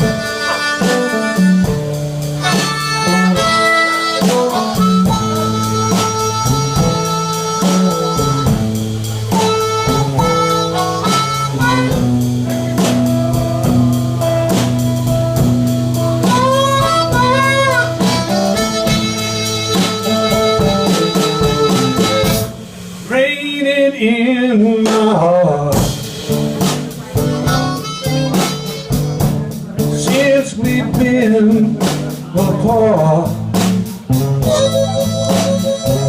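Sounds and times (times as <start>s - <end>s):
blues harmonica: 0.0s - 22.6s, 25.8s - 36.0s
drum kit steady beat: 0.0s - 36.0s
guitar: 0.0s - 36.0s.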